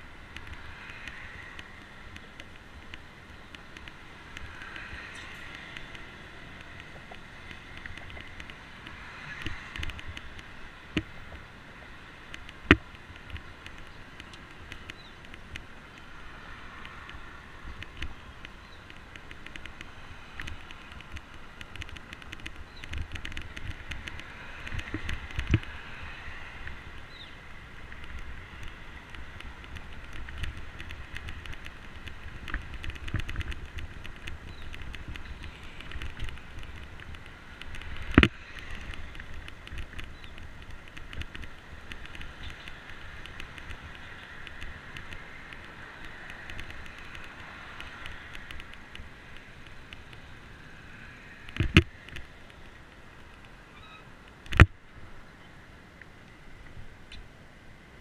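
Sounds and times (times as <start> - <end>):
bicycle tyre noise on concrete: 0.0 - 55.3.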